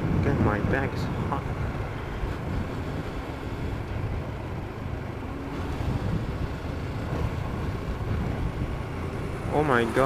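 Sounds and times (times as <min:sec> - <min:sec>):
motorcycle engine rumble: 0:00.0 - 0:10.0
wind rush: 0:00.0 - 0:10.0.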